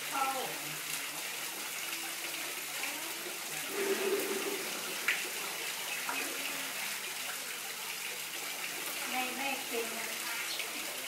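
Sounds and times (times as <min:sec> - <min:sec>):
waterfall splashing into pond: 0:00.0 - 0:11.0.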